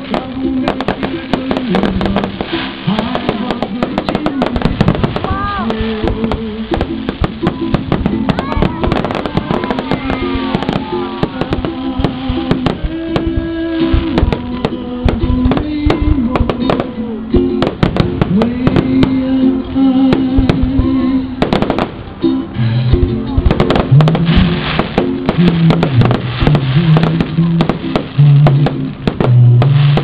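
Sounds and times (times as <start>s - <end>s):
fireworks bursting and crackling: 0.0s - 30.0s
loud music: 0.0s - 30.0s.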